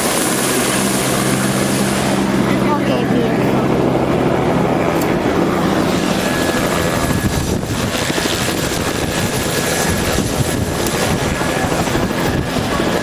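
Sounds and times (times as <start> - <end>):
helicopter rotor noise: 0.0 - 13.0.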